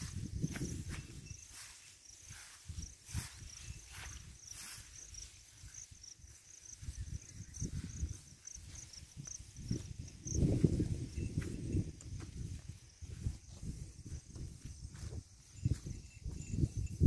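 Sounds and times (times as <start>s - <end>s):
rustles in grass: 0.0s - 16.4s
insects chirping: 0.0s - 17.0s.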